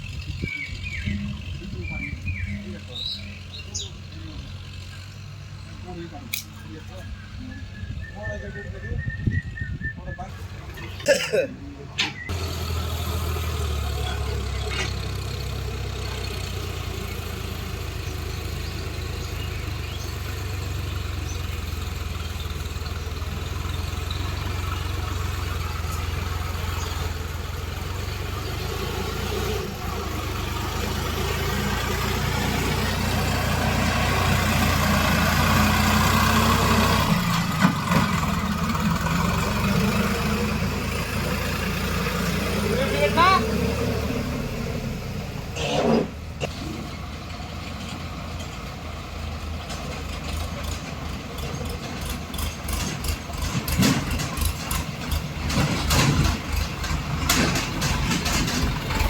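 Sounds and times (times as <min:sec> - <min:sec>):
heavy diesel engine running: 0:00.0 - 0:08.7, 0:12.2 - 0:59.0.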